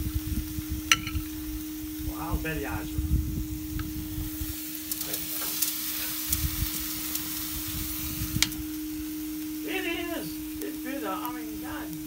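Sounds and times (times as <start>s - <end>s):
chicken sizzling on a grill: 0.0s - 12.0s
low hum: 0.0s - 12.0s.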